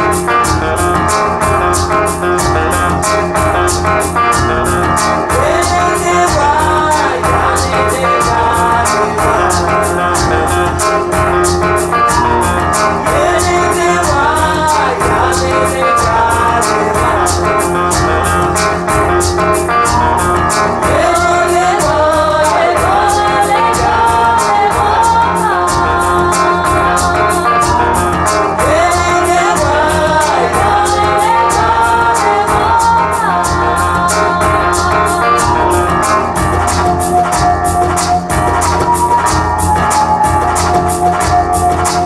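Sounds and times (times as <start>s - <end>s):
person singing: 0.0s - 42.0s
steady beat: 0.0s - 42.0s
sustained bass line: 0.0s - 42.0s.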